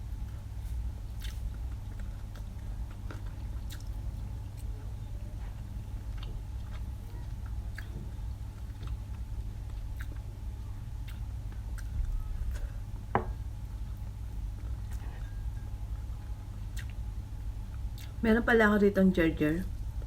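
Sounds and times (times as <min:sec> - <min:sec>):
steady low hum: 0:00.0 - 0:20.0
person chewing food: 0:00.2 - 0:18.2.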